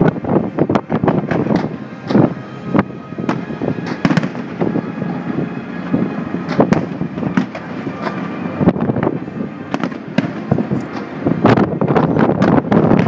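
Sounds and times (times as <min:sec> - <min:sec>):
firework bangs and crackles: 0:00.0 - 0:13.0
steady rumble: 0:00.0 - 0:13.0.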